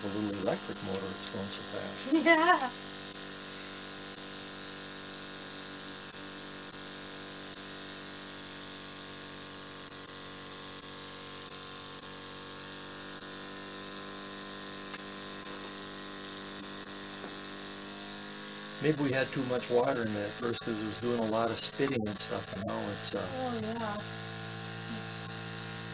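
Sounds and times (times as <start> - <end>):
model steam engine buzzing: 0.0 - 25.9.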